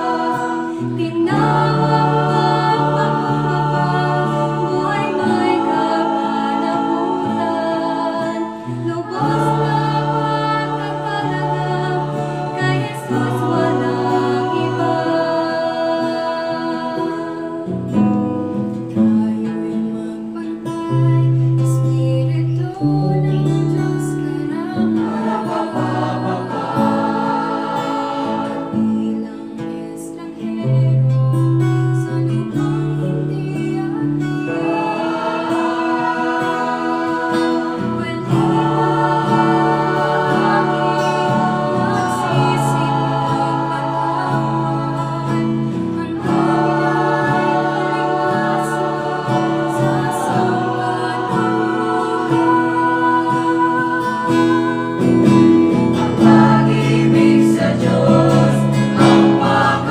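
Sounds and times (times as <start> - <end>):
acoustic guitar: 0.0 - 59.9
group singing in harmony: 0.0 - 59.9.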